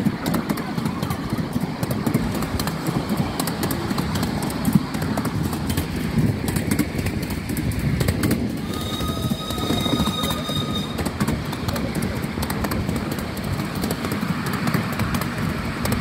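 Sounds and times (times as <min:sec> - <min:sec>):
train wheels rumbling on track: 0:00.0 - 0:16.0
wheel clicks on rails: 0:00.0 - 0:16.0.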